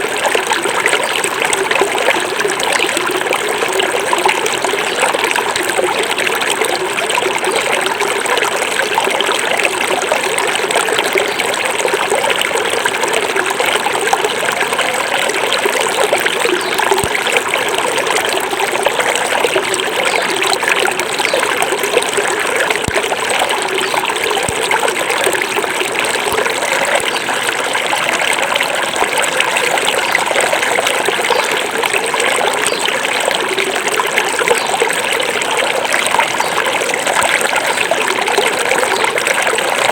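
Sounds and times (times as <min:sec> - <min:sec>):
river burbling over stones: 0:00.0 - 0:39.9.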